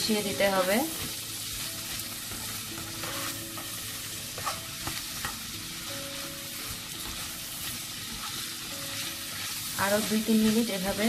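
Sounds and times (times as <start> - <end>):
food sizzling in frying pan: 0.0 - 11.0
spatula stirring and scraping: 0.5 - 11.0.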